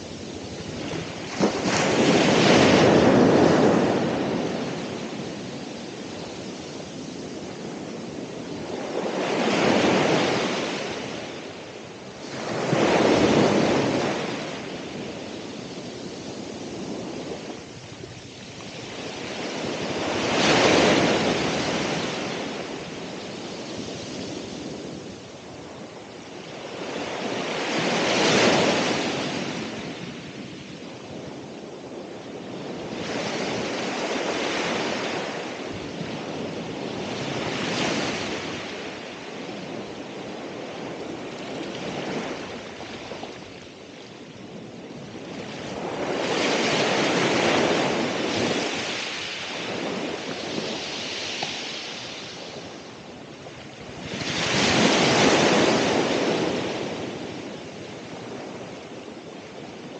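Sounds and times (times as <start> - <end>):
ocean waves breaking on shore: 0.0 - 59.9
wind on microphone: 0.0 - 59.9.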